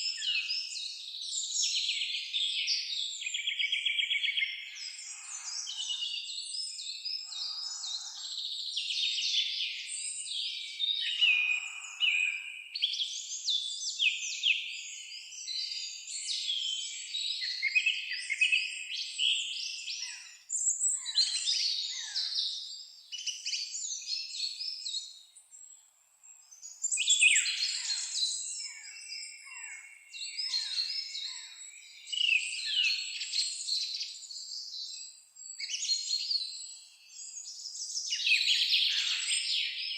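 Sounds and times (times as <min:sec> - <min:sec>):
songbirds singing in chorus: 0:00.0 - 0:39.9.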